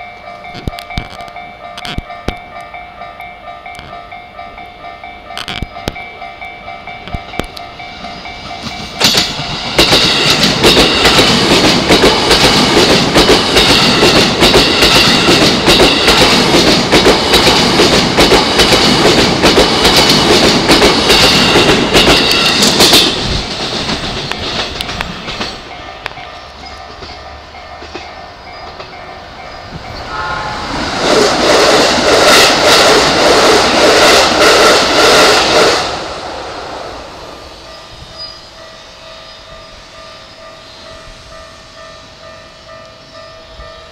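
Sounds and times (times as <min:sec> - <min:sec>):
electric train passing: 0:00.0 - 0:43.9.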